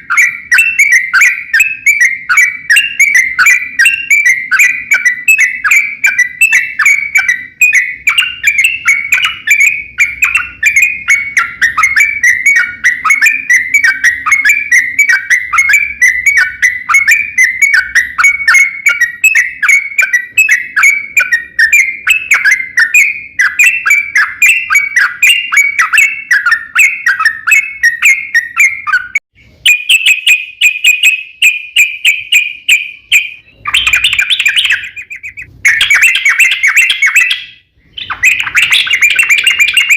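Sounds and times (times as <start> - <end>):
bird whistled chattering song: 0.0 - 39.9.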